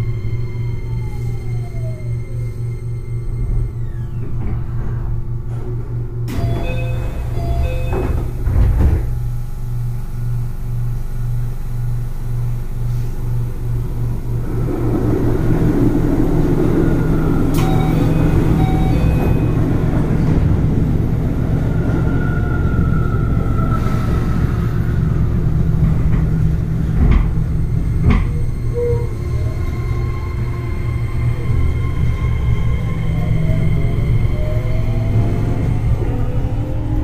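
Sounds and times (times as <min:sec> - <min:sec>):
traction motors whining: 0:00.0 - 0:09.2, 0:14.2 - 0:37.0
wheels rumbling on rails: 0:00.0 - 0:10.7, 0:11.6 - 0:37.0
pulsing low hum of train: 0:00.0 - 0:37.0.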